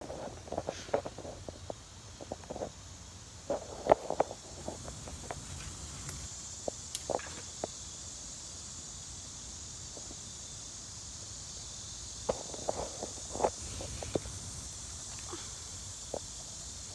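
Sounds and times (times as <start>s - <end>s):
steady high hiss: 0.0s - 16.9s.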